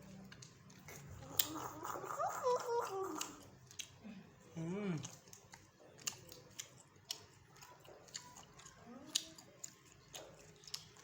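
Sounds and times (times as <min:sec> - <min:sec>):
faint humming voice: 0:00.0 - 0:11.0
person chewing with wet smacks: 0:00.0 - 0:11.0.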